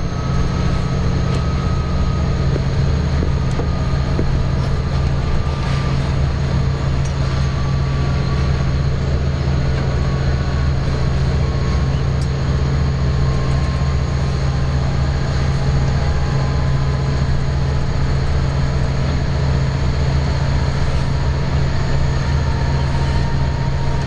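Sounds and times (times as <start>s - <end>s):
faint high whine: 0.0s - 24.0s
locomotive cab low drone: 0.0s - 24.0s.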